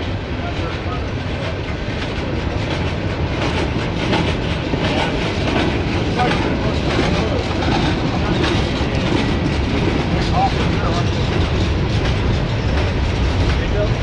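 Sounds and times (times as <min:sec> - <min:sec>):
steel wheels rumbling on rail: 0:00.0 - 0:14.0
wheels clicking over rail joints: 0:00.0 - 0:14.0.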